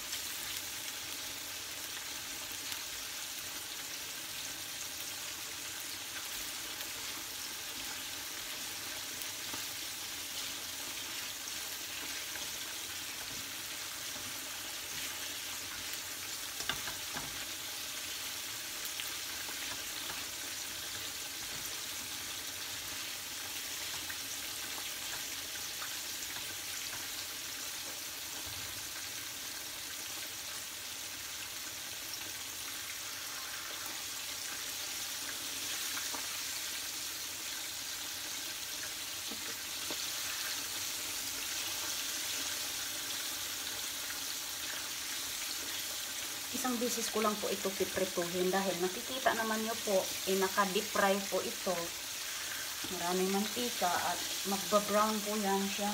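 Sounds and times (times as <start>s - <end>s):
hot oil sizzling: 0.0s - 55.9s.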